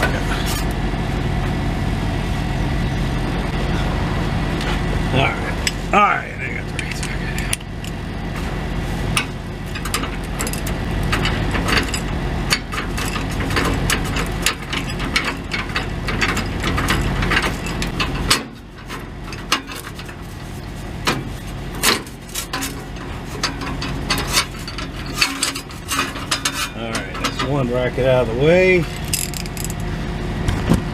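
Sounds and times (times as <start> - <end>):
low engine hum: 0.0 - 30.9.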